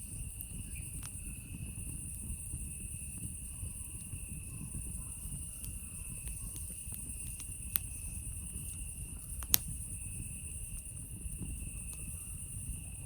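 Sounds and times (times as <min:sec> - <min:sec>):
campfire crackling: 0:00.0 - 0:13.0
fire popping loudly: 0:00.0 - 0:13.0
night insects chirping: 0:00.0 - 0:13.0.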